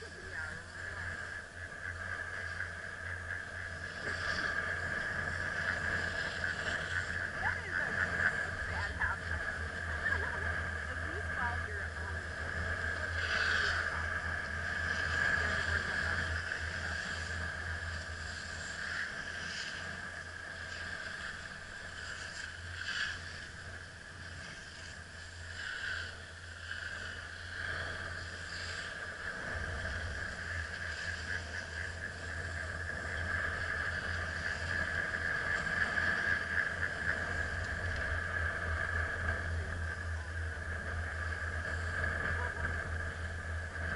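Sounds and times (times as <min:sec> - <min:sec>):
constant high hum: 0:00.0 - 0:43.9
wind and lift rumble: 0:00.0 - 0:43.9.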